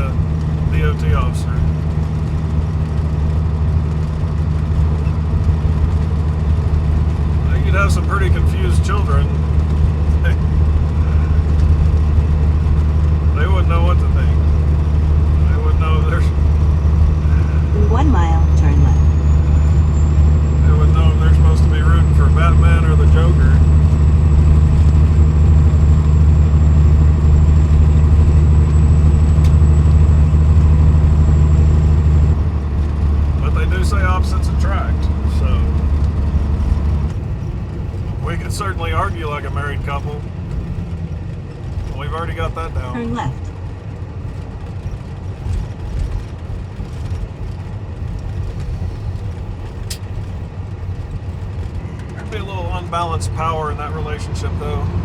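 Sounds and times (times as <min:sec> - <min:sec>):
diesel truck engine drone: 0:00.0 - 0:55.0
road noise inside cab: 0:00.0 - 0:55.0.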